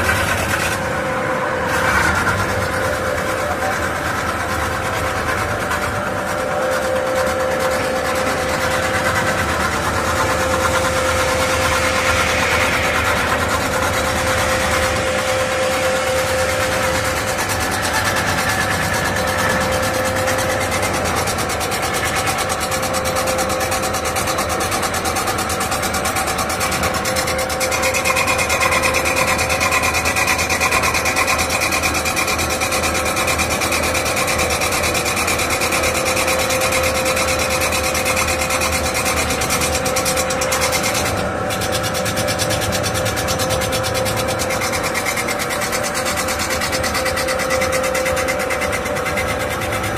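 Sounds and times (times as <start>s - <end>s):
high machine whine: 0.0s - 49.9s
metal-spinning lathe running: 0.0s - 49.9s.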